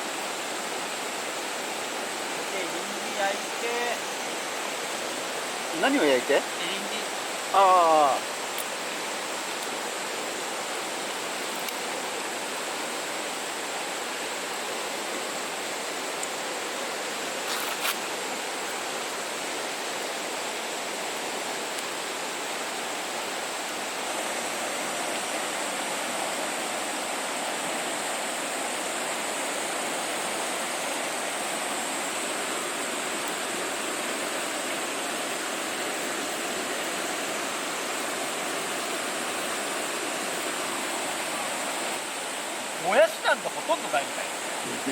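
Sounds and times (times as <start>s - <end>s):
steady rushing hiss: 0.0s - 44.9s.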